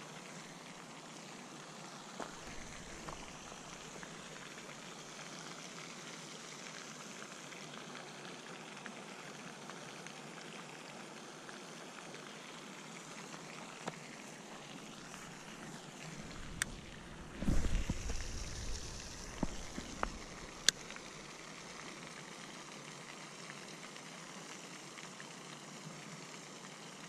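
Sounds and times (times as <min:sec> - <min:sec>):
faint outdoor hiss: 0:00.0 - 0:27.0.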